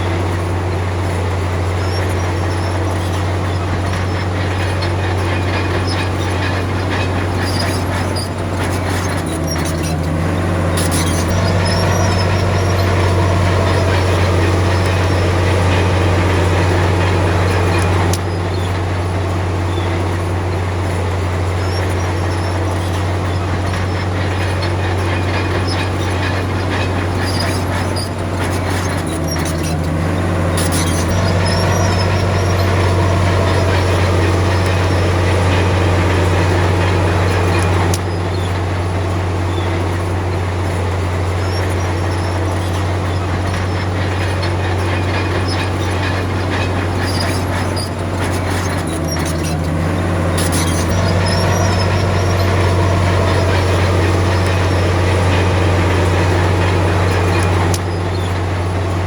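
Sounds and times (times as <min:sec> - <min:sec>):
bulldozer diesel engine droning: 0:00.0 - 0:59.0
light clicking and clanking: 0:01.8 - 0:18.9, 0:19.8 - 0:59.0.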